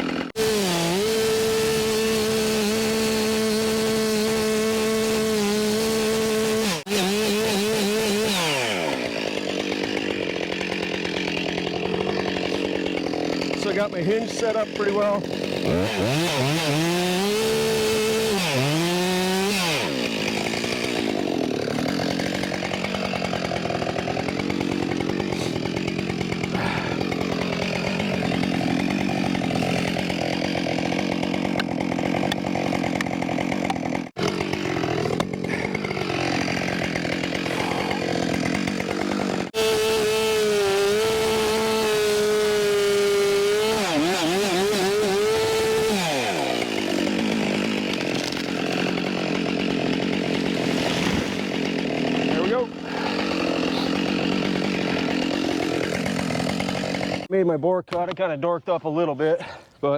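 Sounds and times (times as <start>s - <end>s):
chainsaw cutting and revving: 0.0s - 58.0s.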